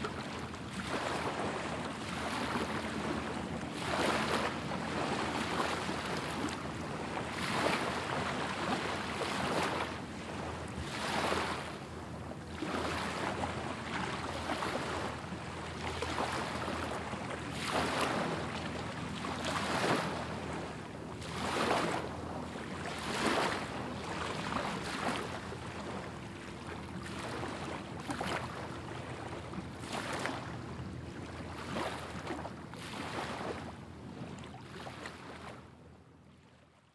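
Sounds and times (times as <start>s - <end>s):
small waves lapping on sandy shore: 0.0s - 36.9s.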